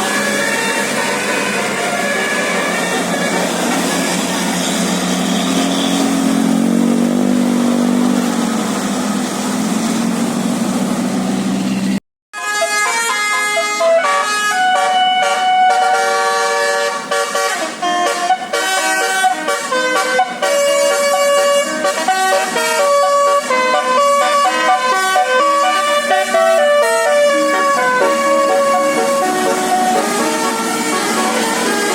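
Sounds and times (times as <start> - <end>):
multi-tone bus horn tune: 0.0 - 7.2, 11.8 - 31.9
bus engine and road noise: 0.0 - 31.9.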